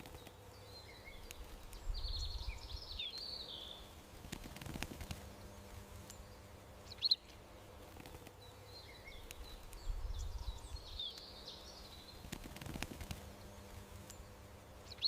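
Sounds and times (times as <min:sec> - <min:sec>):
outdoor ambience: 0:00.0 - 0:15.0
small birds chirping: 0:00.0 - 0:15.0.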